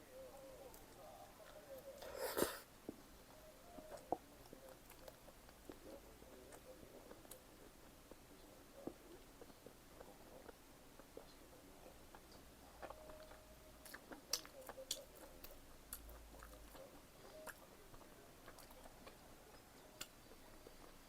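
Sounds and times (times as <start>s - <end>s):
person chewing food: 0.6s - 21.0s.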